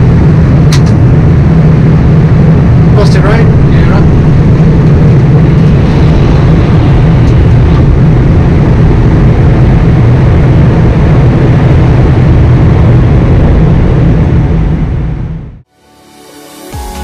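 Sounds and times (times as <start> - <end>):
airplane cockpit rumble: 0.0 - 15.7.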